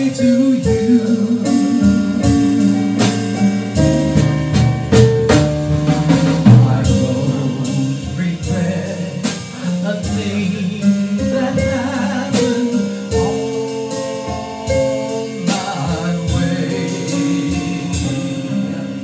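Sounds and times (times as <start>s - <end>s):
man singing into a microphone: 0.0s - 3.1s, 6.1s - 19.0s
drum kit with cymbals: 0.0s - 19.0s
keyboard: 0.0s - 19.0s.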